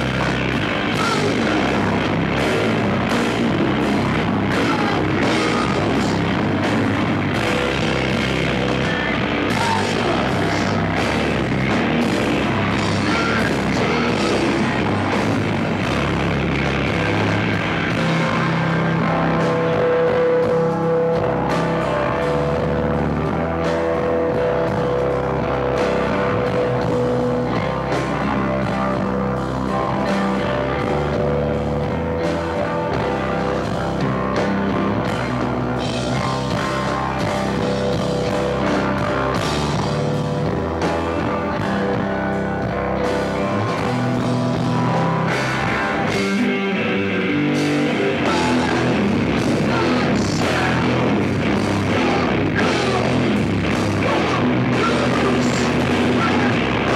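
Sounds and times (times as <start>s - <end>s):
drum kit: 0.0s - 56.9s
electric guitars: 0.0s - 56.9s.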